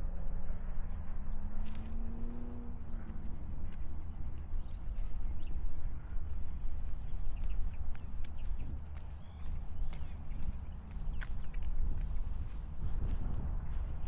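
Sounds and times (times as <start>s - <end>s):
footsteps on a path: 0.0s - 14.0s
small birds chirping: 0.0s - 14.0s.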